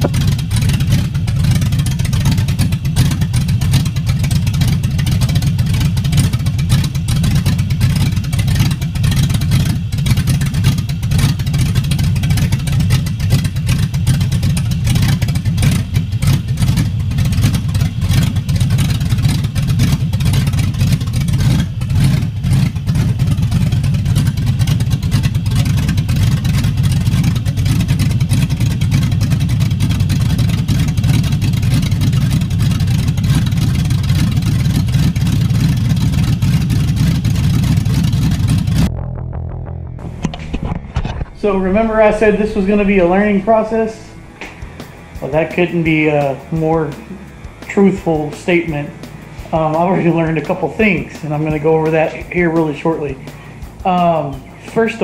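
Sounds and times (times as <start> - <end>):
rough idling engine rumble: 0.0 - 55.0.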